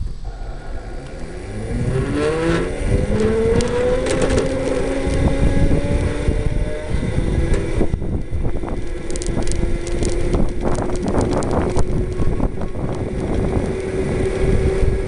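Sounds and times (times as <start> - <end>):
tyres rumbling on asphalt: 0.0 - 15.0
wind buffeting microphone: 0.0 - 15.0
electric motor whine: 0.3 - 15.0.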